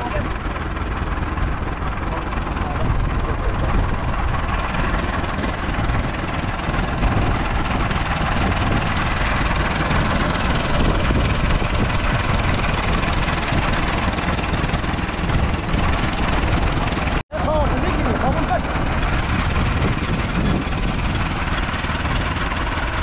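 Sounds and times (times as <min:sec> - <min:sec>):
heavy farm machinery engine running: 0:00.0 - 0:23.0.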